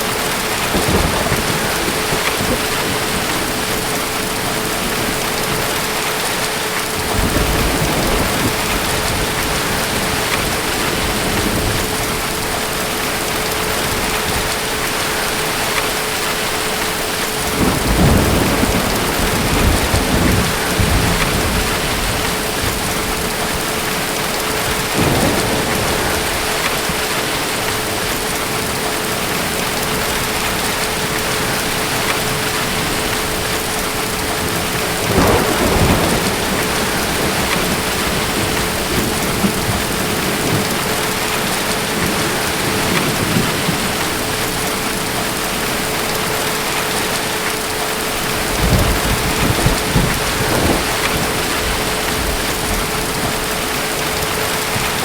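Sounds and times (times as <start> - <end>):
distant thunder rumbling: 0.0 - 47.2, 48.0 - 55.0
heavy rain: 0.0 - 55.0.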